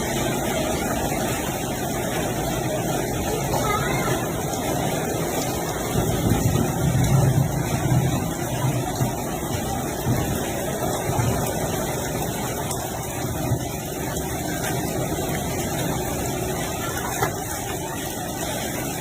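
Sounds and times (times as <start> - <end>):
heavy rain with hail: 0.0 - 19.0.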